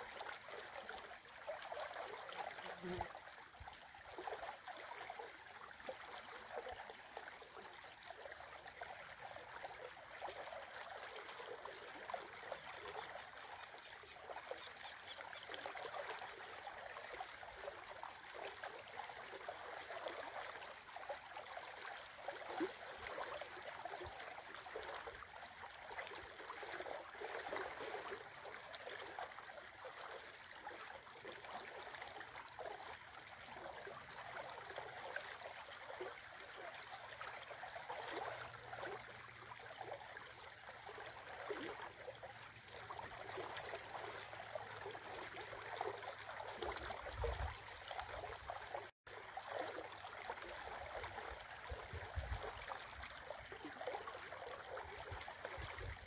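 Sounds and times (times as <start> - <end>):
river rippling over its bed: 0.0 - 56.0.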